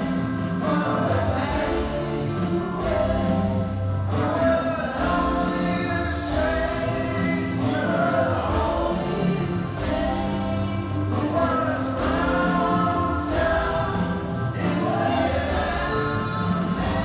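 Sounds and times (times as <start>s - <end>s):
layered sung vocals: 0.0s - 17.0s
live rock band playing: 0.0s - 17.0s.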